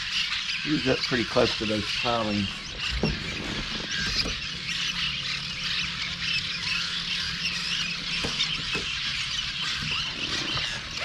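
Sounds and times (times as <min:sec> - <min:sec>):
birds chattering with squeaky calls: 0:00.0 - 0:11.0.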